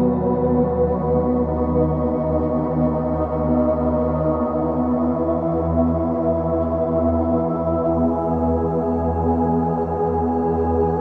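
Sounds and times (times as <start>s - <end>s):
ambient music with sustained tones: 0.0s - 11.0s.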